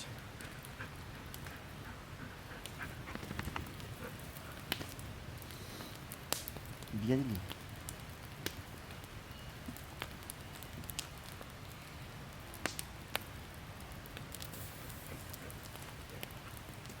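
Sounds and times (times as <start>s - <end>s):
campfire crackling: 0.0s - 17.0s
sharp pops of burning wood: 0.0s - 17.0s.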